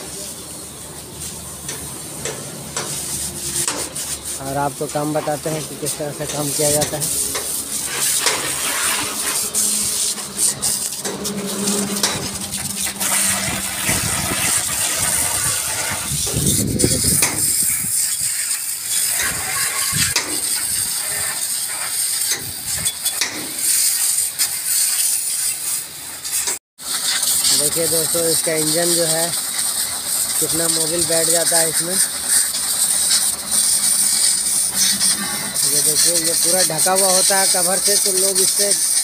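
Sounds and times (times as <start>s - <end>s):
water jet spraying on metal: 0.0s - 39.0s.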